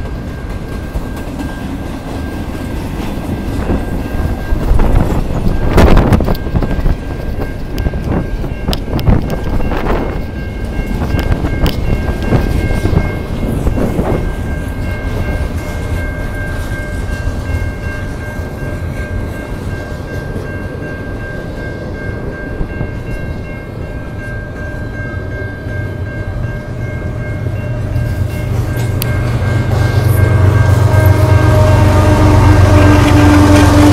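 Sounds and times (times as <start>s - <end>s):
crossing bell ringing: 0.0s - 33.9s
train wheels rumbling on rail: 0.0s - 33.9s.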